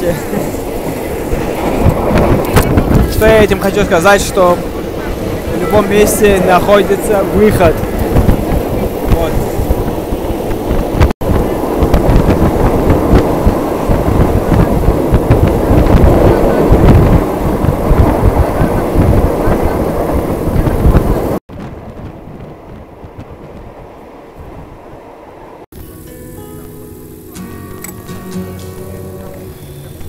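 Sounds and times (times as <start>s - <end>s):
train rattling and clicks: 0.0s - 25.4s, 27.8s - 30.0s
train hum inside carriage: 0.0s - 25.7s
train wheels rumbling on rails: 0.0s - 25.7s.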